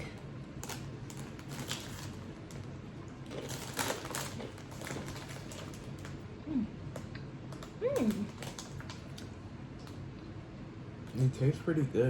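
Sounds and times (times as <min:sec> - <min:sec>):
crunchy pretzels being chewed: 0:00.0 - 0:10.0
steady low hum: 0:00.0 - 0:12.0.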